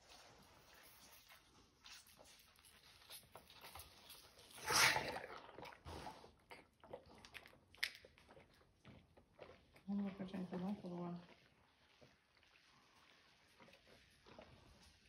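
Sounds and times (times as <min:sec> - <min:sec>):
calf sucking from bottle: 0:00.0 - 0:15.0.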